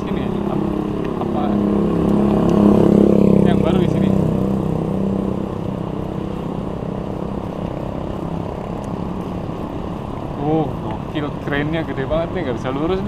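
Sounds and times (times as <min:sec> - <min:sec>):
passing vehicle engine hum: 0:00.0 - 0:13.0
street traffic rumble and hiss: 0:00.0 - 0:13.0.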